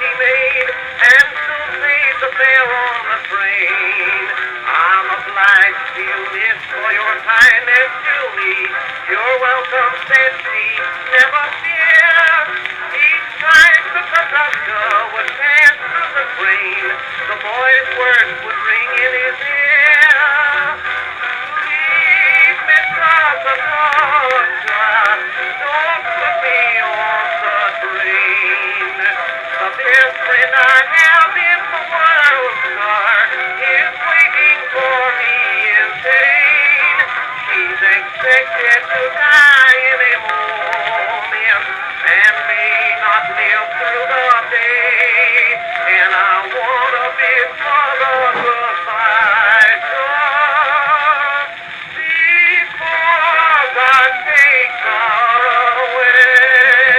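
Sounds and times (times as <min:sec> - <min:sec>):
old cylinder record music: 0:00.0 - 0:56.9.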